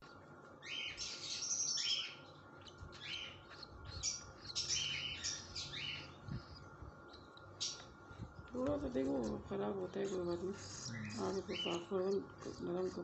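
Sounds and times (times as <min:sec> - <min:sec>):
bird chicks cheeping: 0:00.1 - 0:13.0.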